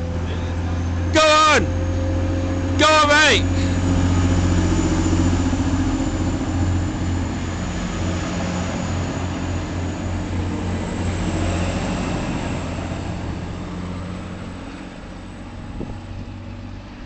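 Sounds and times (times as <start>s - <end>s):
diesel train engines droning: 0.0s - 17.0s.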